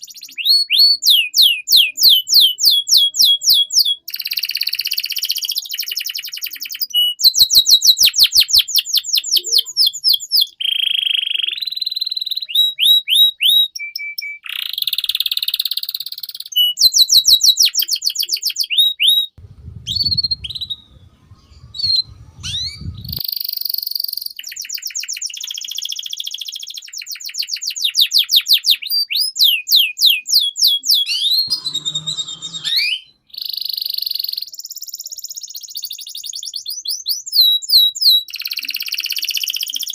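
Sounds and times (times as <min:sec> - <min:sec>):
canary singing: 0:00.0 - 0:35.0.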